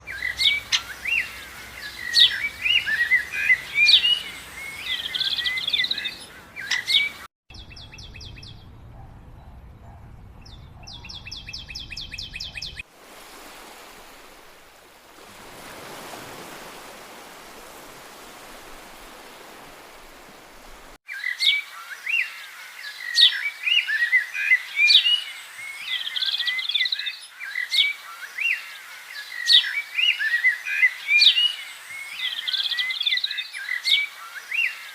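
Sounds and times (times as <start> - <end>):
songbird chorus: 0.0 - 34.9.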